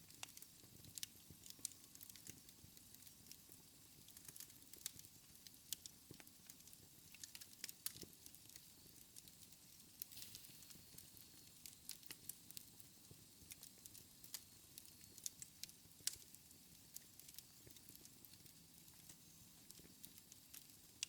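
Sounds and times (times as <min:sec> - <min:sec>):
fireplace fire crackling: 0:00.0 - 0:21.0
soft steady hiss: 0:00.0 - 0:21.0.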